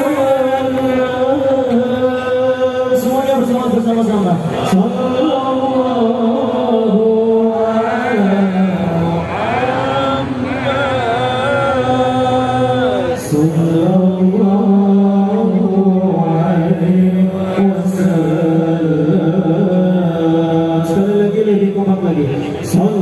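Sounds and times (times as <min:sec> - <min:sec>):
crowd chanting in long notes: 0:00.0 - 0:23.0.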